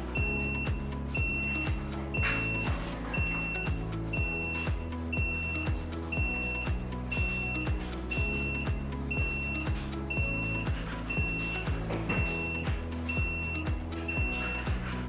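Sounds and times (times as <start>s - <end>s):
electronic music with steady beat: 0.0s - 15.0s
high-pitched beep: 0.2s - 14.7s.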